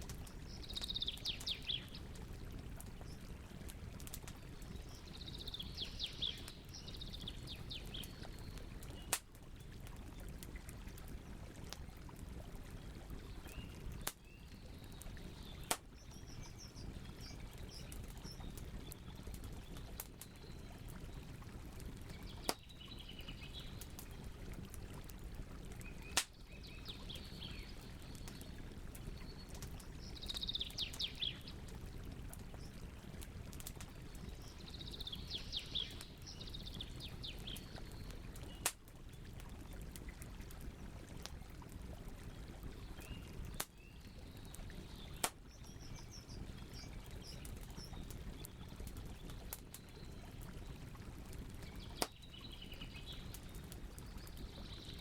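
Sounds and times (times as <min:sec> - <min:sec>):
campfire burning with pops: 0:00.0 - 0:55.0.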